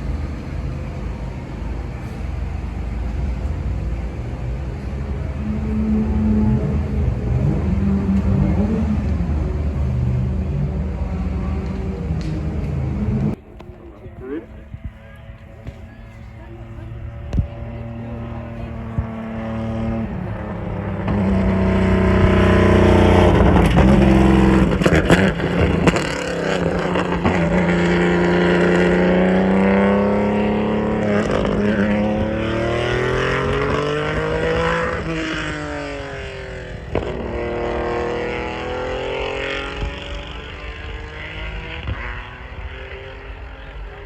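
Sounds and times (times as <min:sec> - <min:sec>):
race car engine at high revs: 0:00.0 - 0:44.0.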